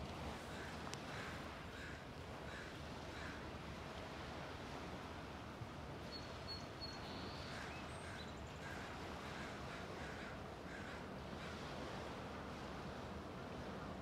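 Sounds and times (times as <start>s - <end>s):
small waves washing on shore: 0.0s - 6.4s, 7.0s - 14.0s.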